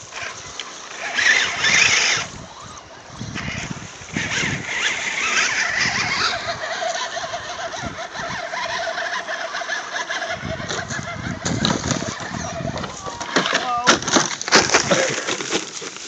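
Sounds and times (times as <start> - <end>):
electric motor and gear whine: 0.0 - 13.6.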